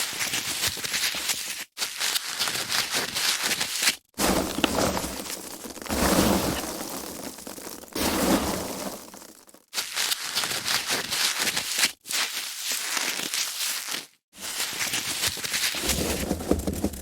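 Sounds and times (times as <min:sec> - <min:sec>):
foam packaging crackling: 0:01.8 - 0:17.0.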